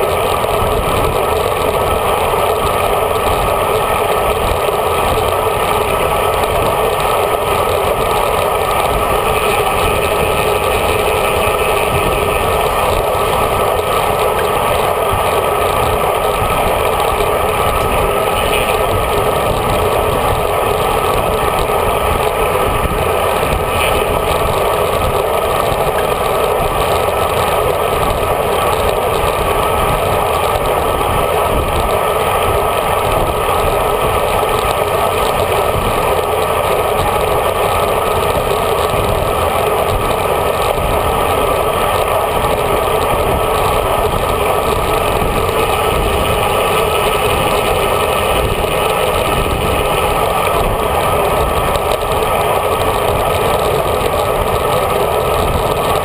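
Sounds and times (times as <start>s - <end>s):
tyre rumble on road: 0.0s - 56.0s
wind rush: 0.0s - 56.0s.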